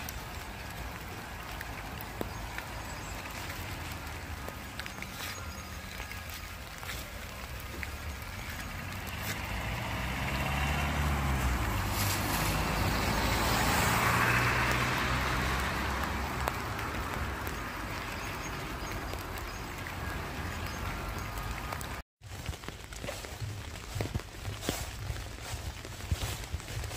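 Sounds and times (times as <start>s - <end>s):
tyres hissing on wet asphalt: 0.0s - 26.9s
vehicle engine hum: 0.0s - 26.9s.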